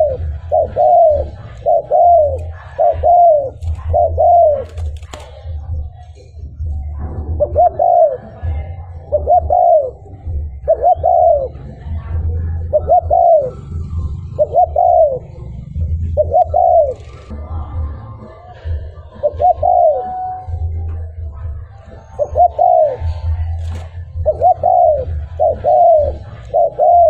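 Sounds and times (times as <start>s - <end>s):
dove cooing: 0.0s - 6.0s, 6.7s - 27.0s.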